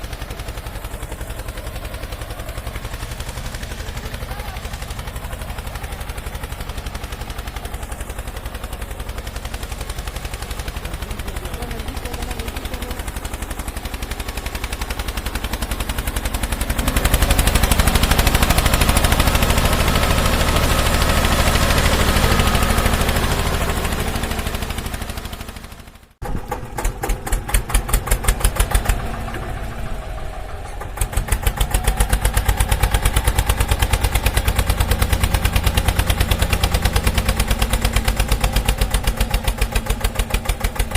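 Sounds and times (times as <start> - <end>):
toy tractor engine chugging: 0.0 - 40.9.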